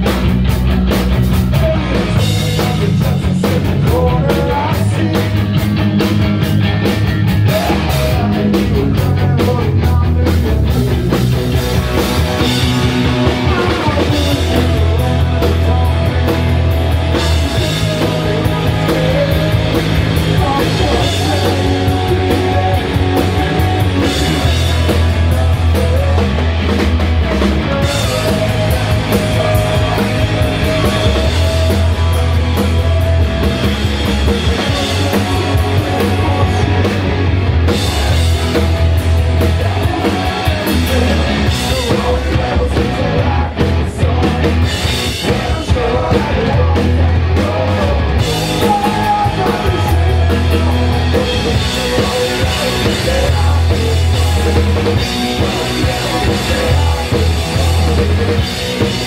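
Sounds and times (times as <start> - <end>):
bass guitar: 0.0 - 59.0
drum kit: 0.0 - 59.0
electric guitar: 0.0 - 59.0
person singing: 1.4 - 5.6, 7.4 - 11.4, 12.4 - 59.0.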